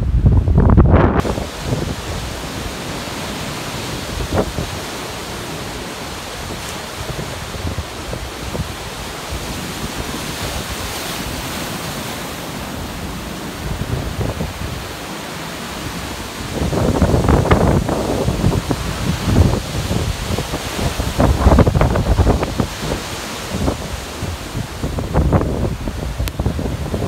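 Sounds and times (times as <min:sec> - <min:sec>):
wind buffeting microphone: 0:00.0 - 0:05.1, 0:05.8 - 0:11.8, 0:13.0 - 0:15.0, 0:15.8 - 0:27.0
surf breaking on rocky shore: 0:00.1 - 0:27.0.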